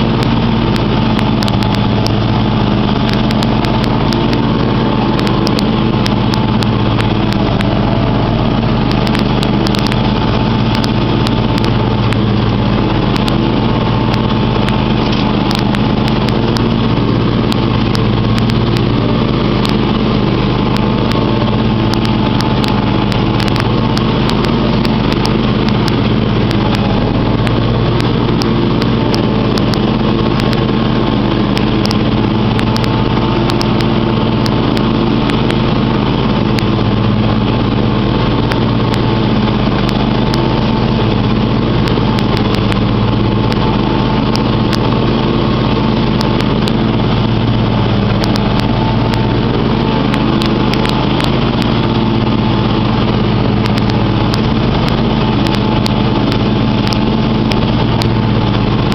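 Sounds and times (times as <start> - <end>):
riding mower engine running: 0.0 - 58.9.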